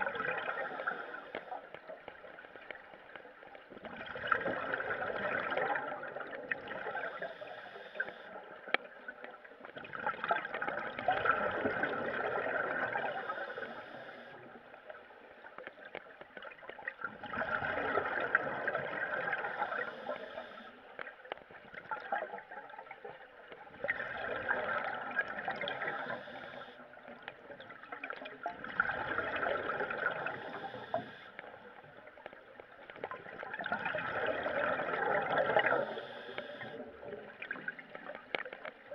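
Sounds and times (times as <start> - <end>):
underwater regulator exhaust bubbles: 0.0 - 14.6, 15.6 - 38.9.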